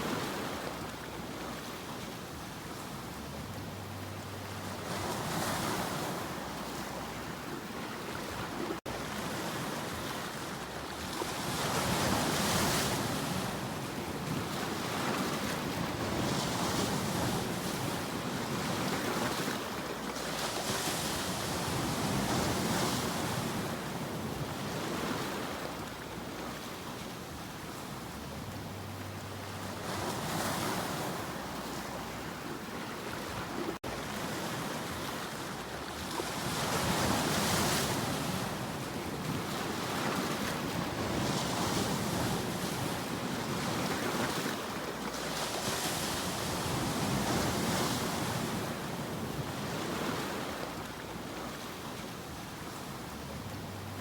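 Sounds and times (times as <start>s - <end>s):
sea waves breaking: 3.9s - 54.0s.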